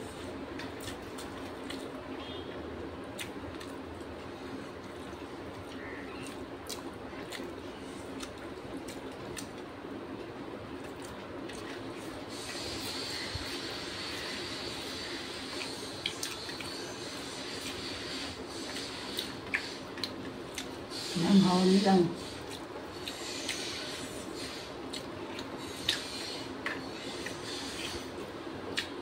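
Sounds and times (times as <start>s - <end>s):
steady background hum: 0.0s - 29.0s.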